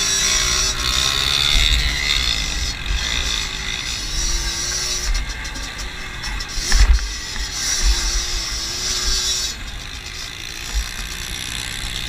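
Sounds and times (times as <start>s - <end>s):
moped engines buzzing: 0.0s - 12.0s.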